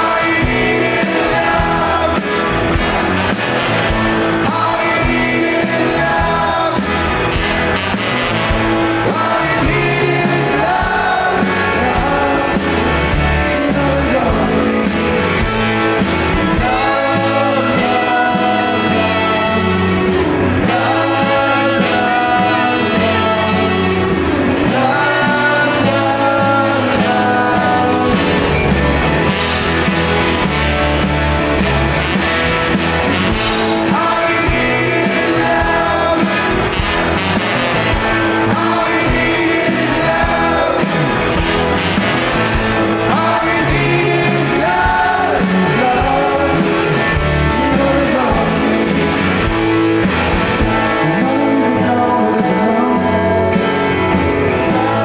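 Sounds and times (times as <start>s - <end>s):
person singing: 0.0s - 30.0s, 33.2s - 55.0s
live rock band playing: 0.0s - 55.0s.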